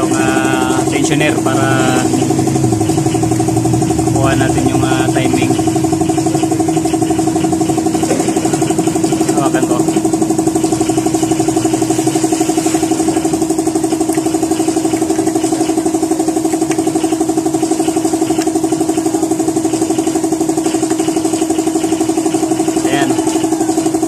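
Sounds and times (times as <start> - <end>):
motor running: 0.0 - 24.0.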